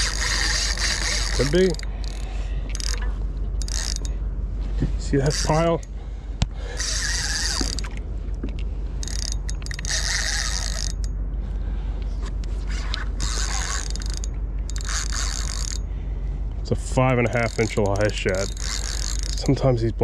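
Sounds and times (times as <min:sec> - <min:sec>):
spinning reel gears whirring: 0:00.0 - 0:04.2, 0:05.0 - 0:06.0, 0:06.6 - 0:11.2, 0:12.4 - 0:15.9, 0:16.7 - 0:20.0.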